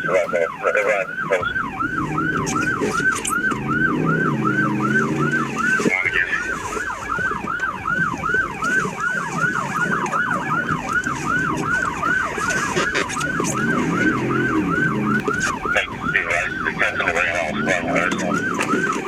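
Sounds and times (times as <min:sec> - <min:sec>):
police siren yelping: 0:00.0 - 0:19.0.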